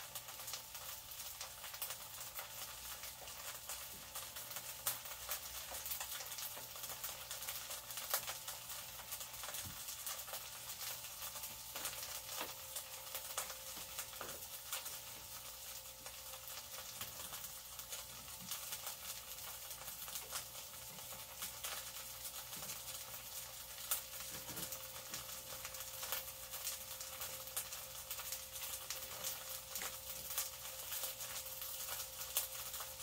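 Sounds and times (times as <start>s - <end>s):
oil sizzling and popping: 0.0s - 33.0s.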